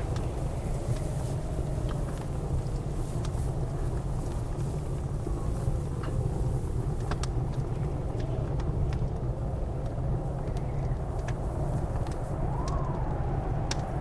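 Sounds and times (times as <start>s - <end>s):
blizzard wind howling: 0.0s - 14.0s
wood fire crackling: 0.0s - 14.0s.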